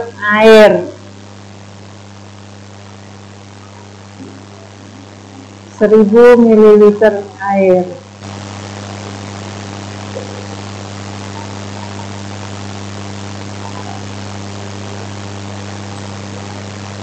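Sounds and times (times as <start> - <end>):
constant hiss: 0.0 - 17.0
low electrical hum: 0.0 - 17.0.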